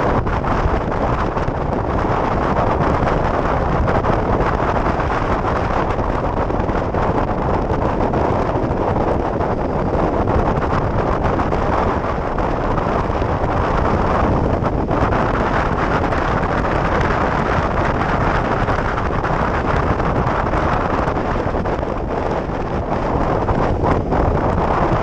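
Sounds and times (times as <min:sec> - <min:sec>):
motorcycle engine and road noise: 0:00.0 - 0:25.0
wind rushing over microphone: 0:00.0 - 0:25.0.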